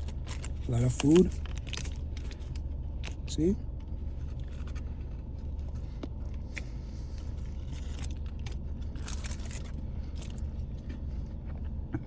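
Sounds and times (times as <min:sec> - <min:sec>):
crackling and rustling: 0:00.0 - 0:11.9
car engine idling: 0:00.0 - 0:12.0.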